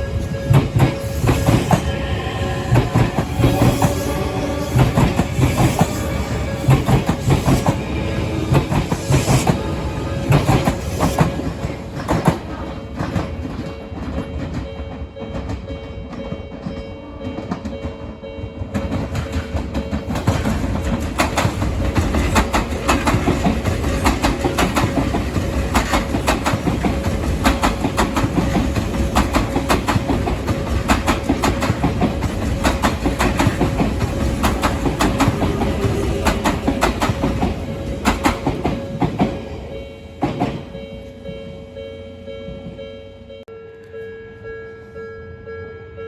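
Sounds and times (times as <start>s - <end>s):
level crossing warning bell: 0.0s - 46.0s
train wheels clattering over joints: 0.1s - 16.8s, 18.7s - 39.4s.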